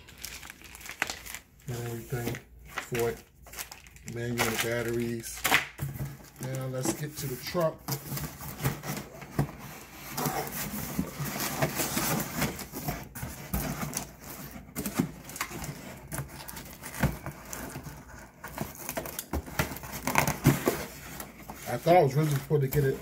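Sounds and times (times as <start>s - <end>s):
cardboard rustling and scraping: 1.1s - 3.6s, 5.8s - 23.0s.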